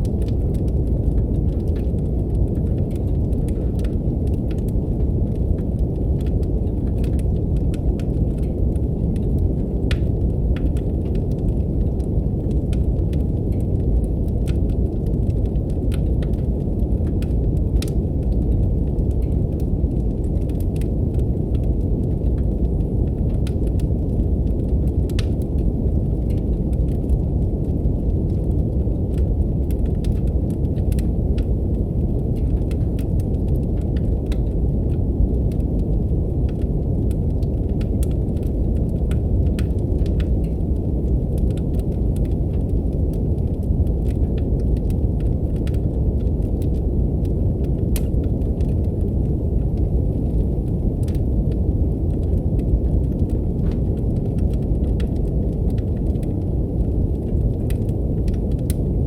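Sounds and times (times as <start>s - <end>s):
fireplace crackling: 0.1s - 58.8s.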